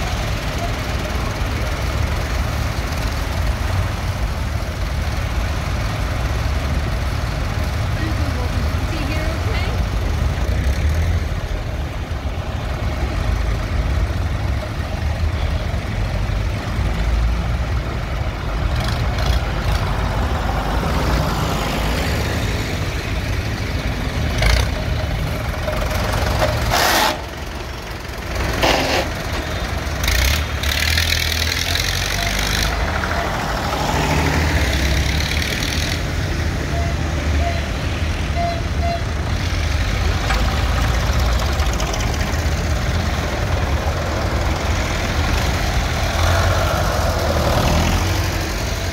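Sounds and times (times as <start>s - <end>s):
tractor engines running: 0.0s - 48.9s.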